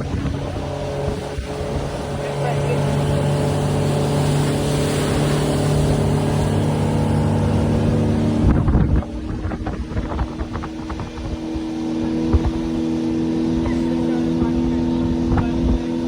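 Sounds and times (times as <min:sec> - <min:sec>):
rushing water and wind: 0:00.0 - 0:16.0
speedboat engine running: 0:00.0 - 0:16.0.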